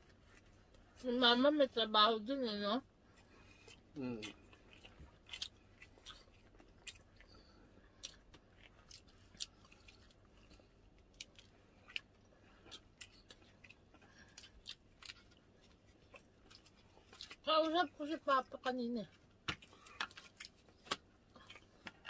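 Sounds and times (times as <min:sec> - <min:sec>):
food being chewed: 0:03.1 - 0:17.8, 0:18.5 - 0:22.0.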